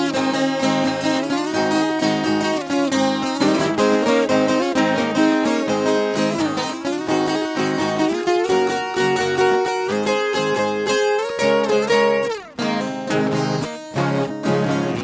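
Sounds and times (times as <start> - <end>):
folk guitar picking notes: 0.0 - 15.0.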